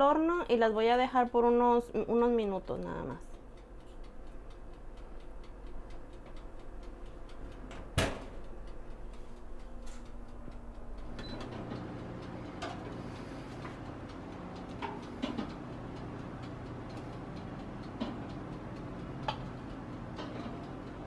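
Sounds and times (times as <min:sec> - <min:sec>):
dial timer ticking: 0:00.1 - 0:21.0.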